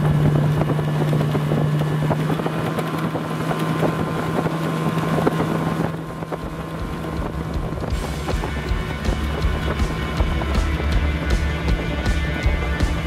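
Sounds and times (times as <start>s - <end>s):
boat across choppy water: 0.0s - 13.0s
outboard motor running: 0.0s - 13.0s
wind buffeting microphone: 0.0s - 13.0s.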